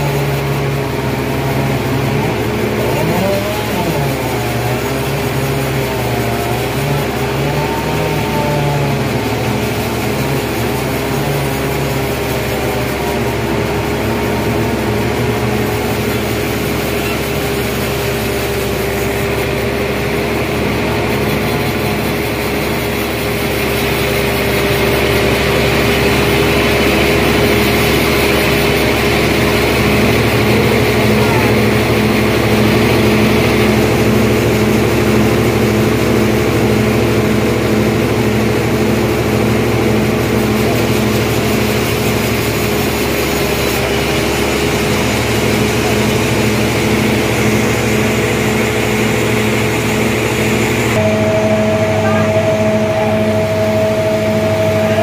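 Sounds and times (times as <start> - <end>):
band sawmill cutting log: 0.0 - 55.0.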